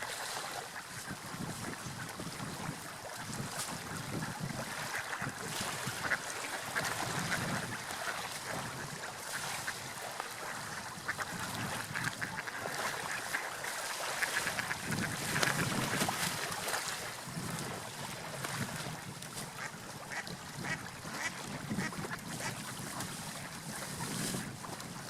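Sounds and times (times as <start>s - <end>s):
sea waves: 0.0s - 25.0s
wind: 0.0s - 25.0s.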